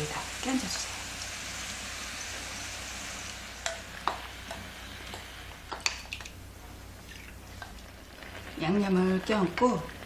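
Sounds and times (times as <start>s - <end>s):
frying pan sizzling: 0.0s - 10.0s.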